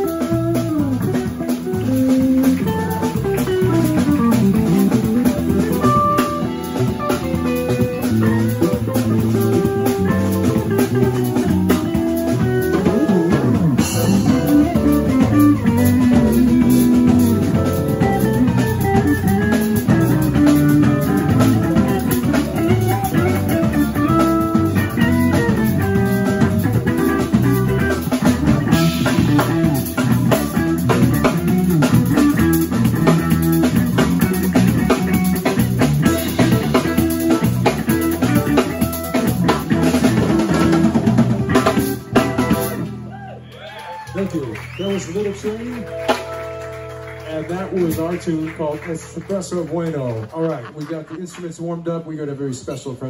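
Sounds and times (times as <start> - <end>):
electric guitar melody: 0.0 - 50.3
drum kit: 0.0 - 51.6
bass guitar: 0.0 - 53.0.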